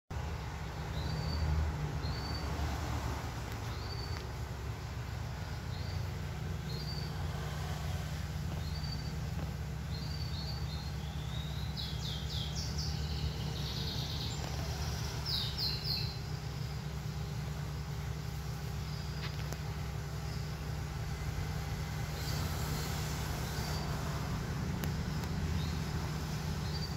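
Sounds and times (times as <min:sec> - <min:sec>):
steady low rumble: 0:00.1 - 0:26.9
bird chirping: 0:00.6 - 0:02.6, 0:03.5 - 0:26.9.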